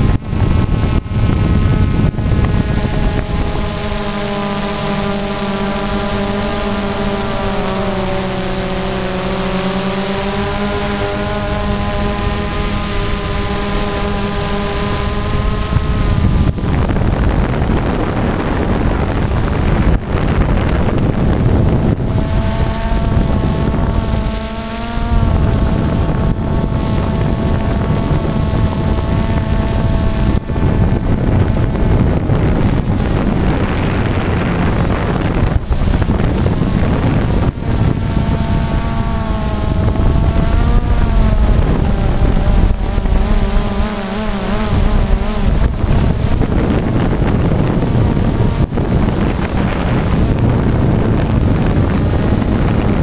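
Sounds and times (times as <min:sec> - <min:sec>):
drone motors whining: 0:00.0 - 0:53.0
wind on microphone: 0:00.0 - 0:53.0.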